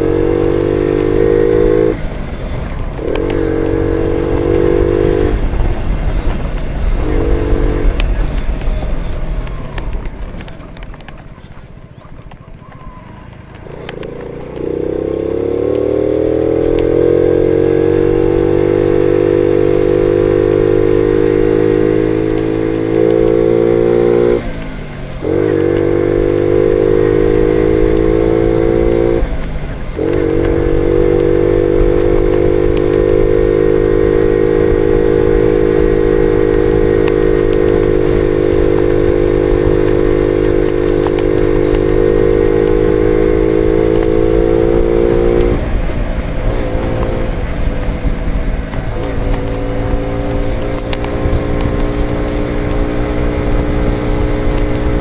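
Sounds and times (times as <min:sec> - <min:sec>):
moped engine pulling away: 0:00.0 - 0:12.0, 0:12.6 - 0:55.0.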